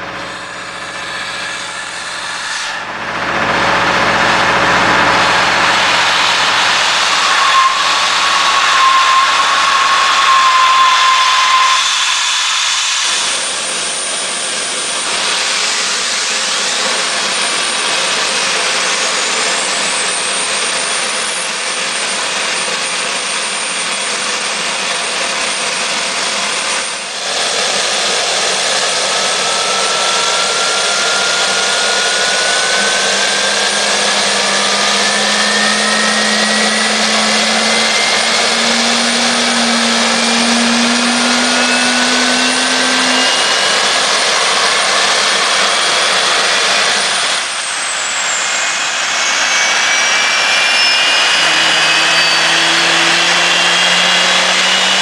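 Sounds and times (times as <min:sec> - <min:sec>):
turbine whine rising: 0:00.0 - 0:55.0
loud rushing hiss with whistle: 0:05.0 - 0:55.0.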